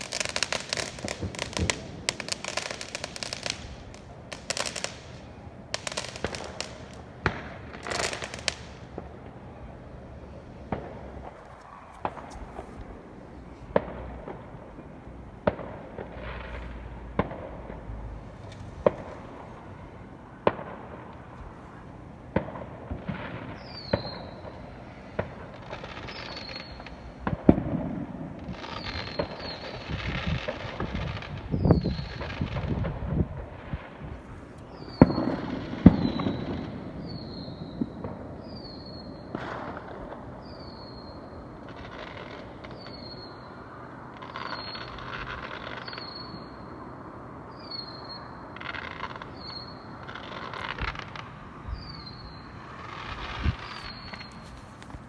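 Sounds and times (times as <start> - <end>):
falling firework whistles: 0.0 - 14.8, 23.0 - 33.0, 34.1 - 43.6, 44.2 - 46.8, 47.5 - 55.0
fireworks bangs: 0.0 - 43.4, 47.7 - 55.0
fireworks crackling: 0.0 - 46.6, 48.5 - 55.0.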